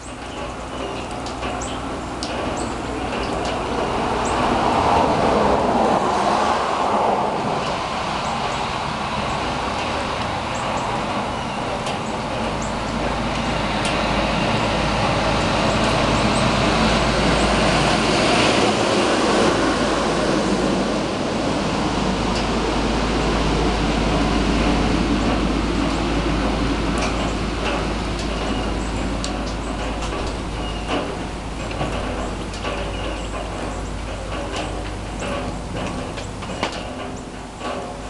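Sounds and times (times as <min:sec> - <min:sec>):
truck passing on wet road: 0:00.0 - 0:38.0.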